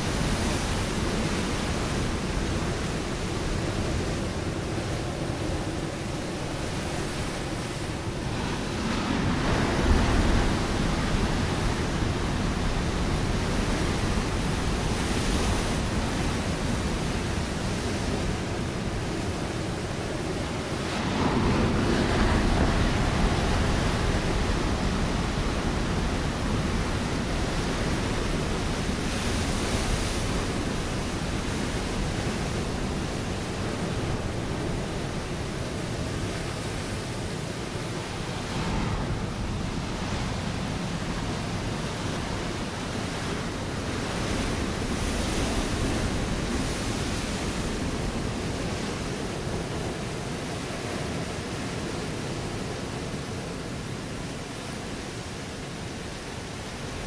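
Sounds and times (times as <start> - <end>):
ocean waves breaking on rocks: 0.0 - 57.0.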